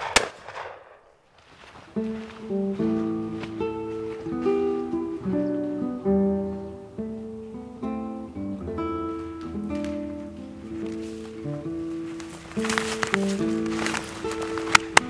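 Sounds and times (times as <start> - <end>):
acoustic guitar picking: 1.9 - 15.0.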